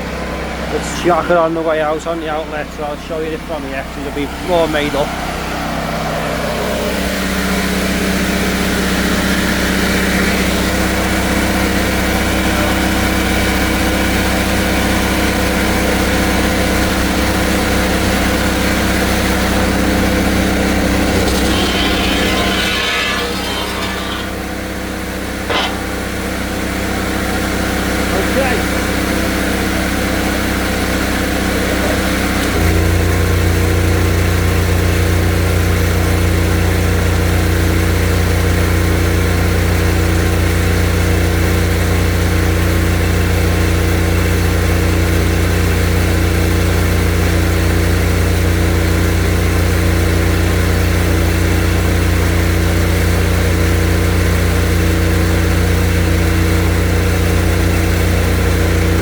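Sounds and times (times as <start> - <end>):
drain jetter engine running: 0.0 - 59.0.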